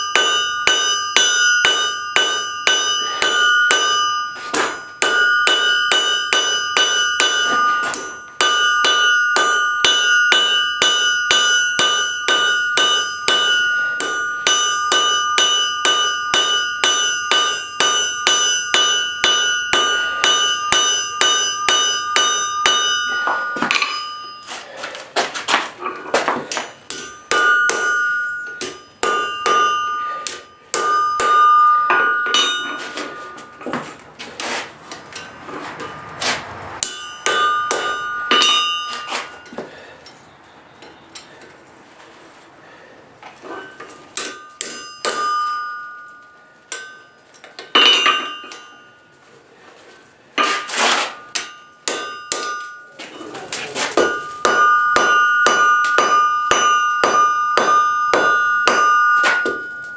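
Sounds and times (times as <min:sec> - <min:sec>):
hammer striking steel on anvil: 0:00.0 - 0:40.2, 0:43.4 - 0:49.1, 0:50.4 - 0:59.9.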